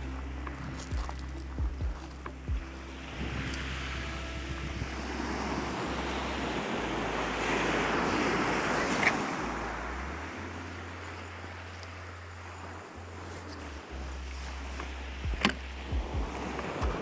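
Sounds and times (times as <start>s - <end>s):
low wind rumble: 0.0s - 17.0s.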